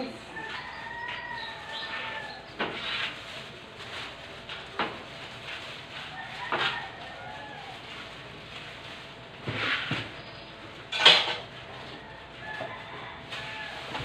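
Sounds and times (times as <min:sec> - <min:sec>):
plastic bags rustling: 0:00.3 - 0:14.0.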